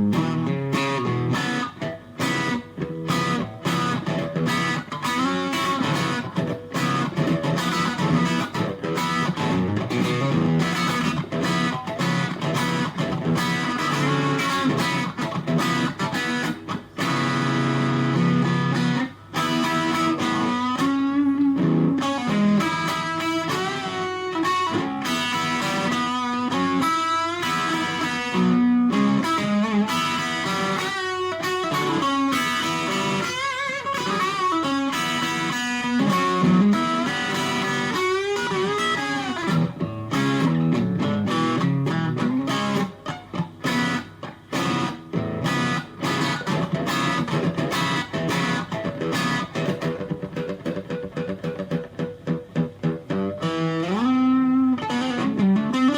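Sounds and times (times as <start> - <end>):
electric guitar lead with string bends: 0.0 - 55.9.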